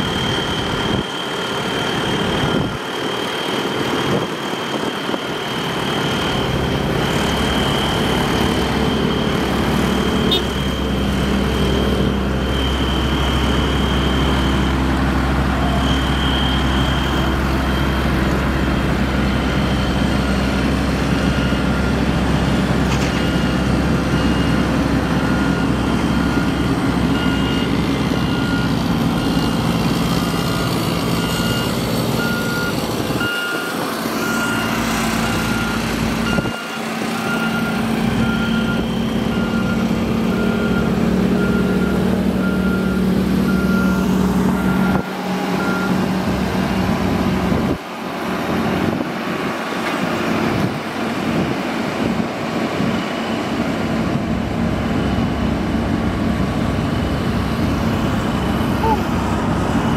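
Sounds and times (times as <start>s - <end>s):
reversing alarm beeping: 0.0s - 49.8s, 50.5s - 59.9s
diesel engines running: 0.0s - 59.9s.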